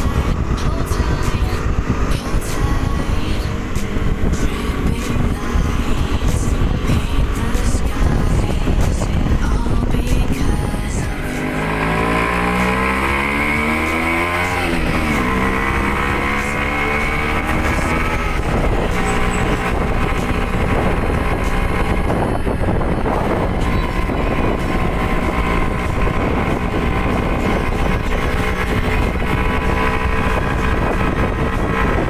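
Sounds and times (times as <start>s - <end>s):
two-stroke motorcycle engine running: 0.0s - 32.0s.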